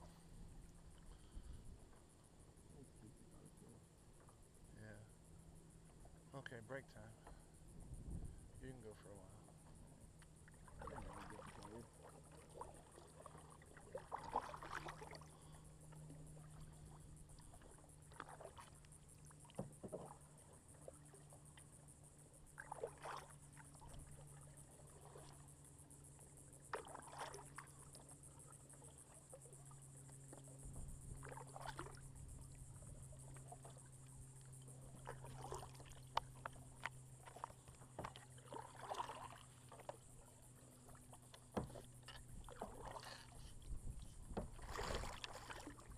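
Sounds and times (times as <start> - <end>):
paddle splashing in water: 8.7 - 45.9.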